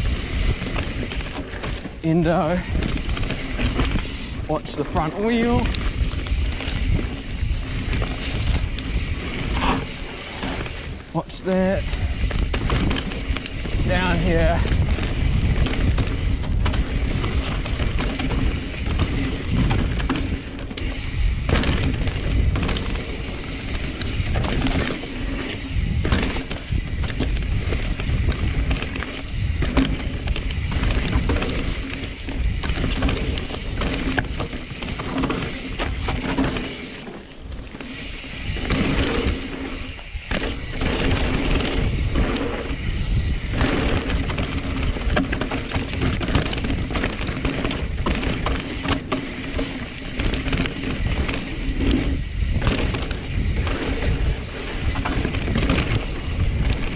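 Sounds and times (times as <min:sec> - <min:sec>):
bike clicking and rattling: 0:00.0 - 0:56.9.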